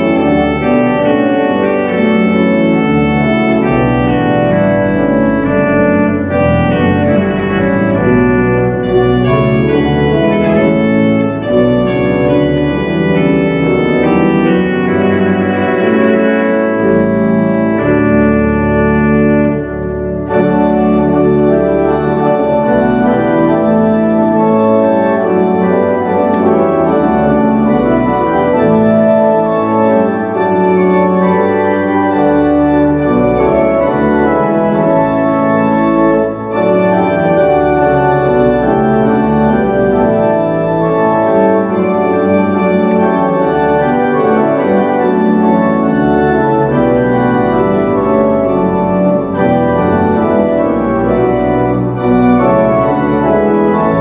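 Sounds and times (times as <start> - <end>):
church organ playing hymn: 0.0 - 54.0.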